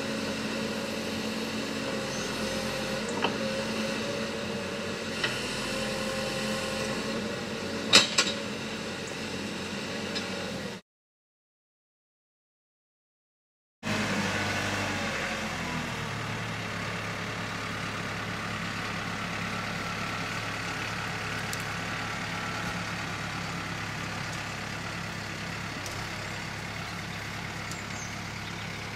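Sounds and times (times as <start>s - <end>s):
diesel engine running: 0.0s - 10.8s, 13.8s - 28.9s.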